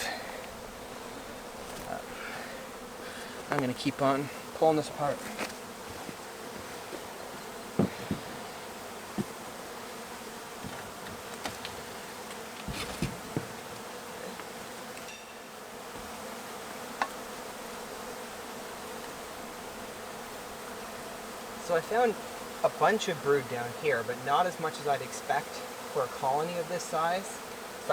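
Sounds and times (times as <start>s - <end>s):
bee colony buzzing: 0.0s - 27.9s.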